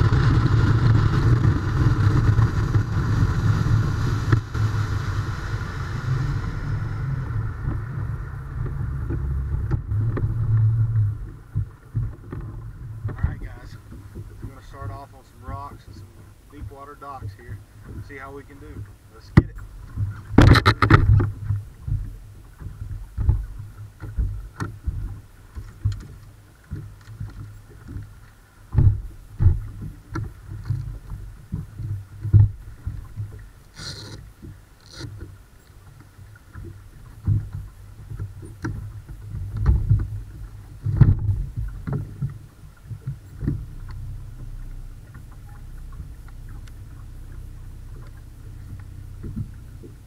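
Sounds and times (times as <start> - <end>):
faint steady hum: 0.0 - 50.0
waves slapping boat hull: 0.0 - 50.0.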